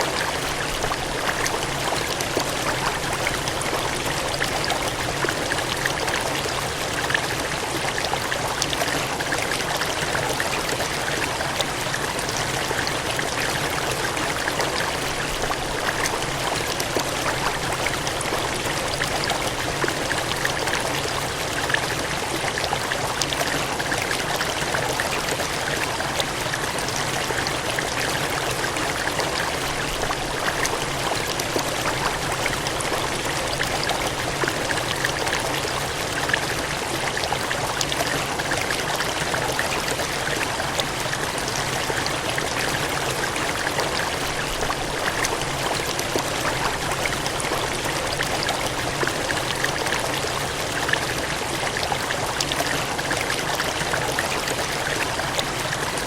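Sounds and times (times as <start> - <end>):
cascading water gushing: 0.0 - 56.0.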